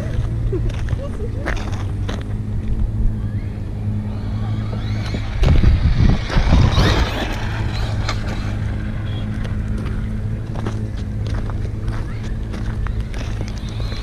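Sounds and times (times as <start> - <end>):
steady low hum: 0.0 - 14.0
electric motor whining: 1.7 - 14.0.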